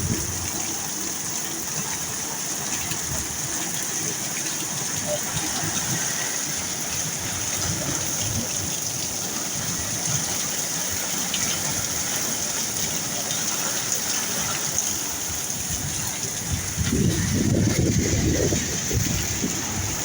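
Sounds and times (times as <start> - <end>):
heavy rain splashing: 0.0 - 20.0.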